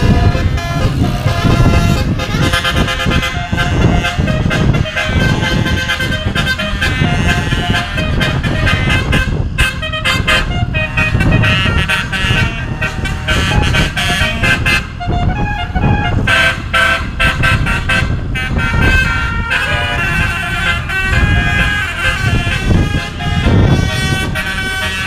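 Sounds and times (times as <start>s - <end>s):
low rumble: 0.0s - 24.8s
multi-tone horn tune: 0.0s - 25.0s.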